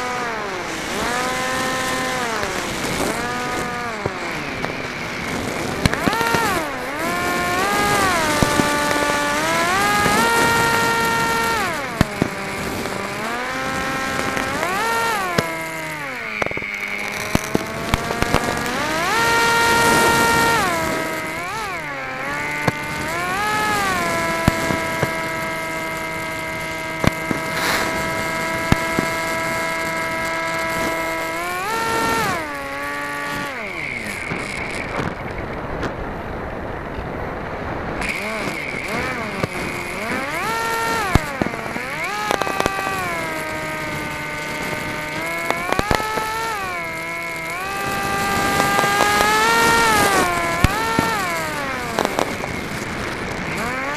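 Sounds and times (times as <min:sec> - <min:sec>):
electric motor and propeller whine: 0:00.0 - 0:53.9.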